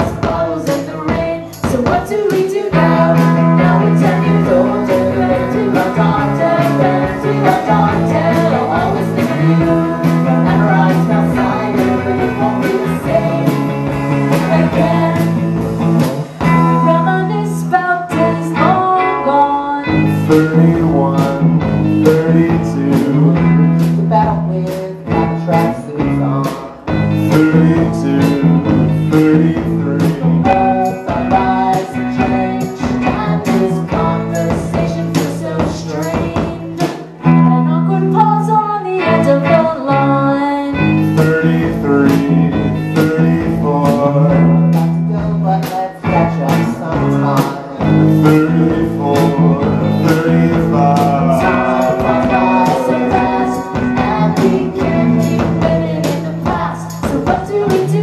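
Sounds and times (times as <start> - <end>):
bass: 0.0 - 58.0
drums: 0.0 - 58.0
guitars: 0.0 - 58.0
keyboard: 0.0 - 58.0.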